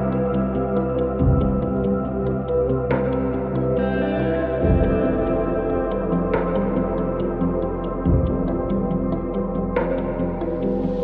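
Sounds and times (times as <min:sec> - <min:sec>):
ambient synth music: 0:00.0 - 0:11.0
deep bass note: 0:00.0 - 0:11.0.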